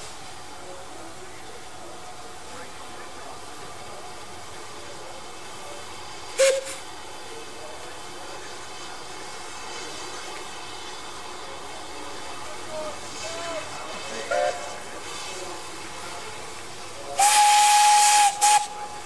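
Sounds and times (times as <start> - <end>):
steam engine hiss: 0.0 - 19.0.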